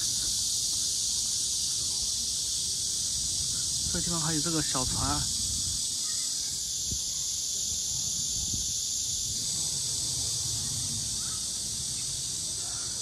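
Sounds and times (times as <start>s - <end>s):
insects chorus shrill hiss: 0.0s - 13.0s.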